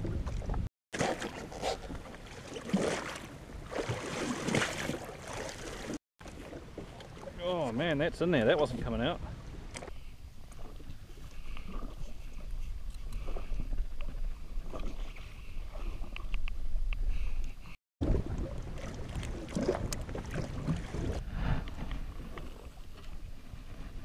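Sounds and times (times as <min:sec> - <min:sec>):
water lapping against hull: 0:00.0 - 0:24.0.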